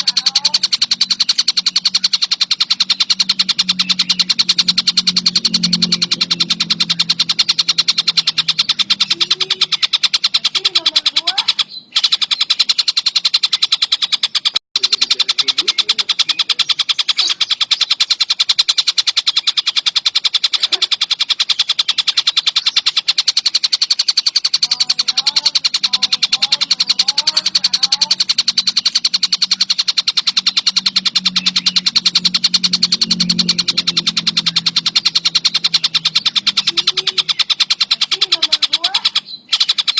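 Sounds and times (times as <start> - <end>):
low hum: 0.0 - 13.8, 14.8 - 39.9
kingfisher chattering: 0.0 - 39.9.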